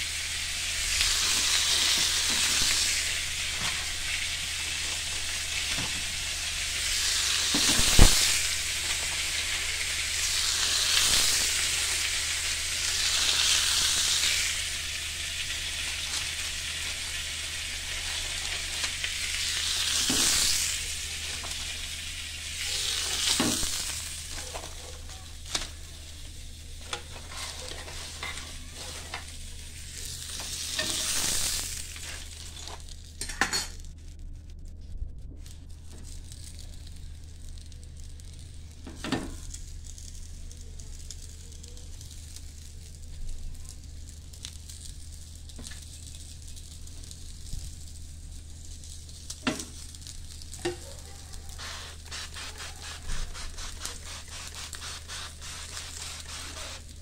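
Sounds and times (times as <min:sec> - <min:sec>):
food sizzling in grill pan: 0:00.0 - 0:34.4, 0:35.7 - 0:57.0.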